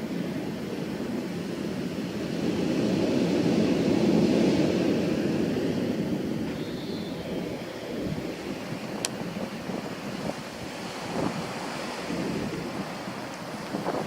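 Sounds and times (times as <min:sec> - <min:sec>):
wind gust rushing: 0:01.2 - 0:14.0.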